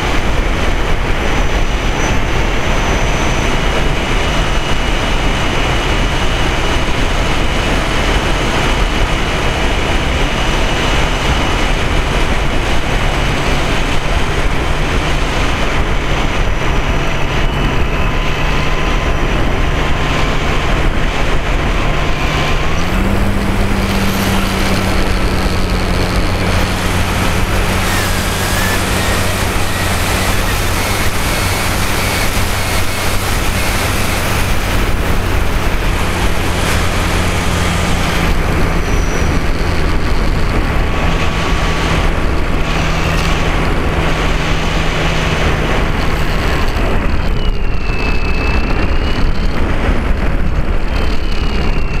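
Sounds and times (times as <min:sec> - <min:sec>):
model airplane motor and propeller: 0:00.0 - 0:52.0.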